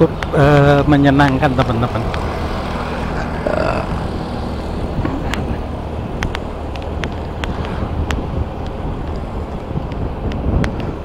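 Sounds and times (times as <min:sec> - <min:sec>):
vehicle engine hum: 0:00.0 - 0:11.0
wind and tyre hiss: 0:00.0 - 0:11.0.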